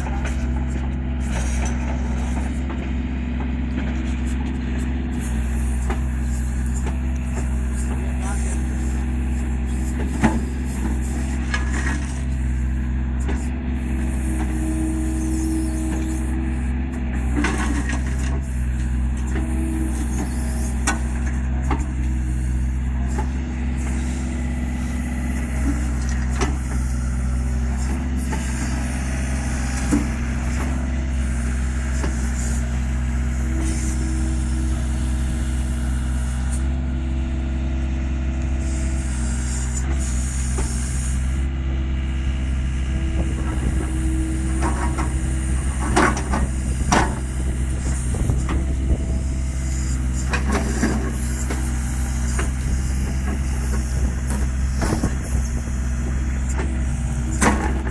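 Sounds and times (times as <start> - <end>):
diesel engine running: 0.0 - 57.9
hydraulic whine: 0.0 - 57.9.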